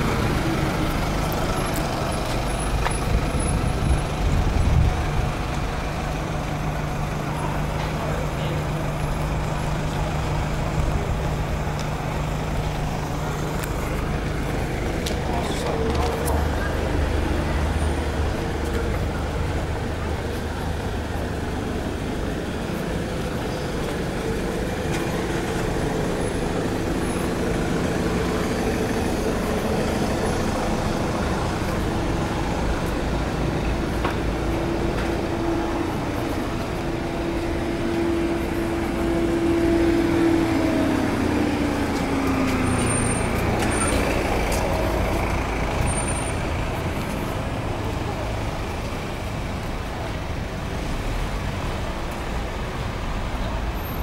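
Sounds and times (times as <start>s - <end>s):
road traffic engines: 0.0s - 54.0s.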